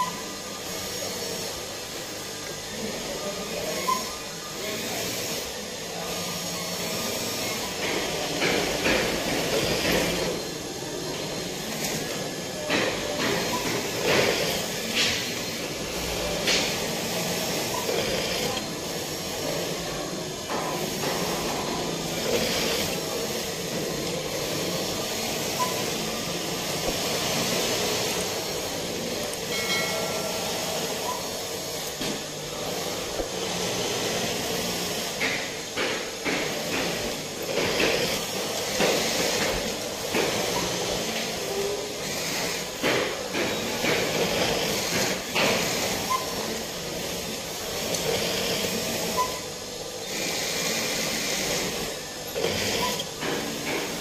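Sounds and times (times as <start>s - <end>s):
industrial sewing machines running: 0.0s - 54.0s.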